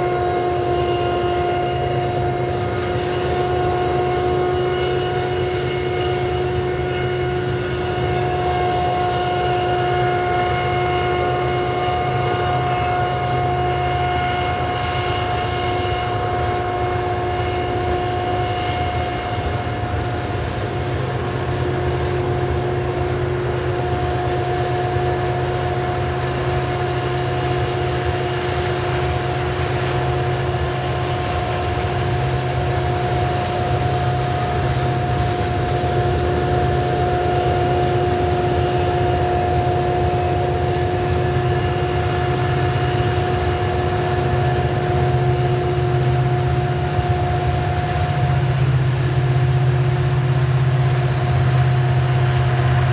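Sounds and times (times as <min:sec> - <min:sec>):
diesel locomotive whine: 0:00.0 - 0:52.9
train cars rolling on rails: 0:00.0 - 0:52.9.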